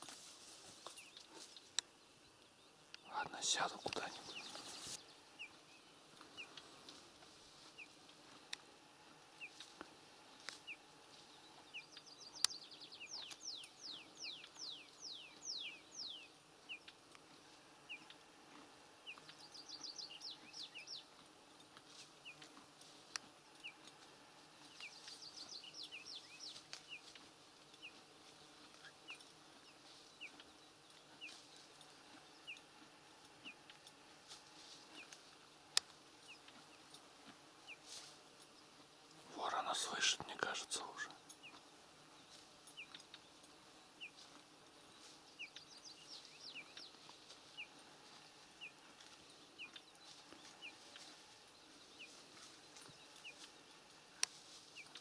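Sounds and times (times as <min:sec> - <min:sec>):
faint birdsong chirps: 0:00.3 - 0:55.0.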